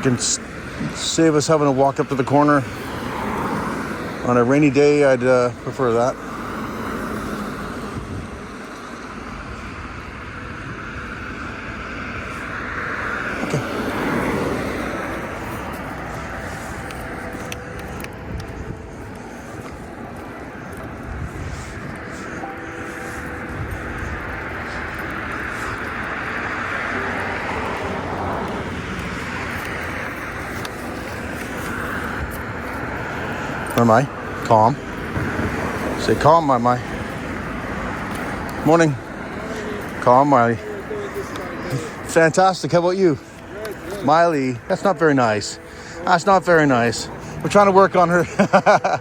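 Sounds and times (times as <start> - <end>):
tyres hissing on wet road: 0.0 - 49.0.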